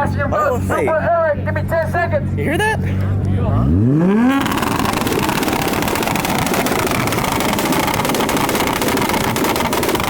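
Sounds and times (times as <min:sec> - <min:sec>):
car engine at high revs: 0:01.4 - 0:10.0.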